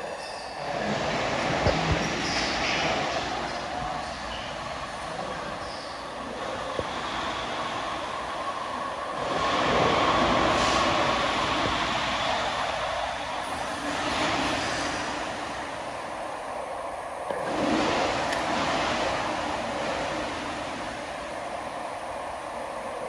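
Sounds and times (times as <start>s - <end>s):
light-rail train rumbling to a stop: 0.0s - 23.0s.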